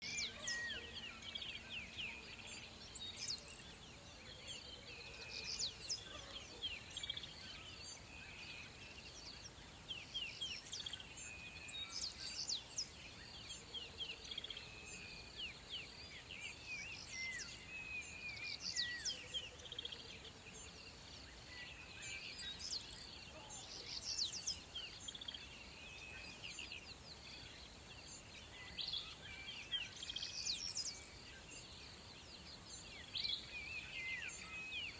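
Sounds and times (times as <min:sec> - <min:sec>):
faint steady hiss: 0:00.0 - 0:34.9.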